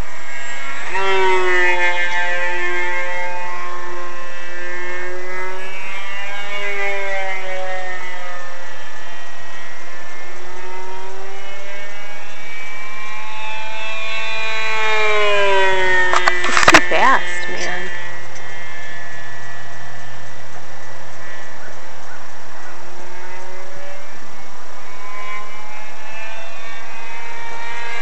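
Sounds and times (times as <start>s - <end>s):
electric model plane motor whine: 0.0s - 28.0s.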